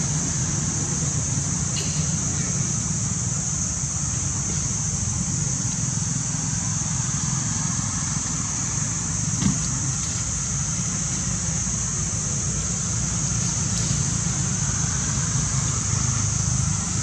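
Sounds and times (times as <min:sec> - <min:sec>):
constant high hiss: 0:00.0 - 0:17.0.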